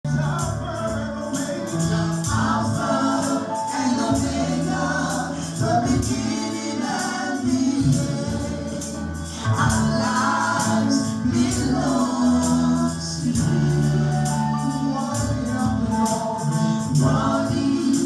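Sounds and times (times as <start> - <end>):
bass: 0.0 - 18.0
choir singing gospel music: 0.1 - 18.0
percussion beat: 0.1 - 18.0.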